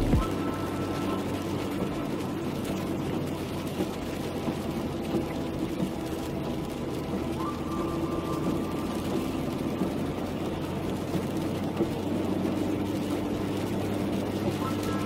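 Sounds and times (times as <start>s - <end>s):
car engine hum: 0.0s - 15.0s
tyres hissing on wet road: 0.0s - 15.0s.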